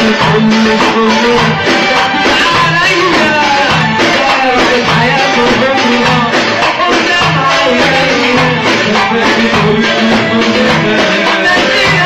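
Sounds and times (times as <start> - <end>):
live band with drum kit: 0.0 - 12.0
man singing into a microphone: 0.0 - 12.0.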